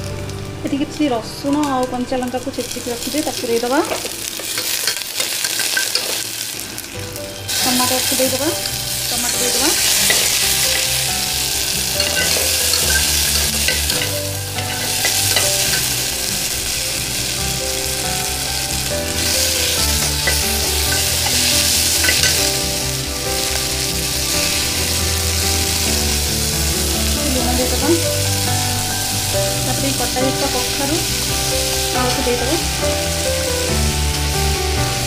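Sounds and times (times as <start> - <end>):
onion and tomato sizzling in oil: 0.0 - 35.0.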